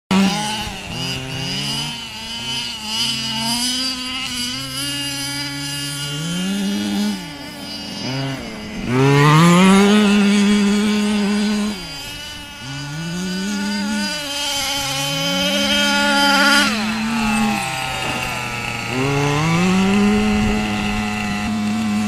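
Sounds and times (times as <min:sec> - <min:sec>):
small two-stroke engine revving: 0:00.1 - 0:22.0.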